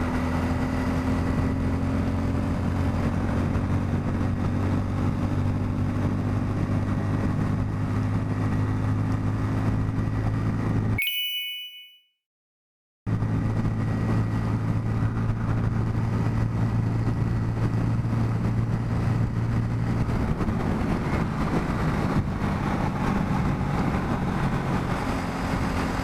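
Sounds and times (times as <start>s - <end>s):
wind and road noise: 0.0s - 10.9s, 13.1s - 26.0s.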